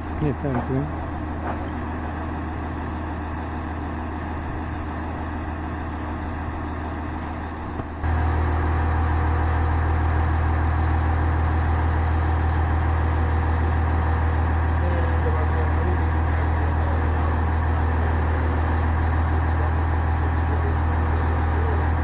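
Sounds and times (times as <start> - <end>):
crane engine humming: 0.0 - 22.0.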